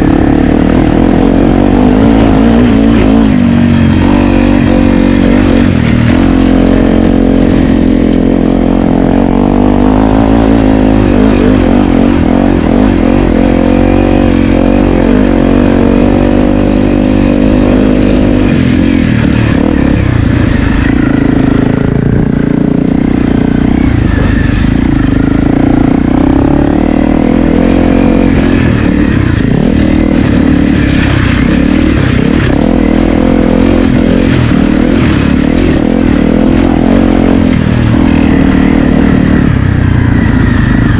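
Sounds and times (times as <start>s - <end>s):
motorcycle engine revving under load: 0.0s - 40.9s.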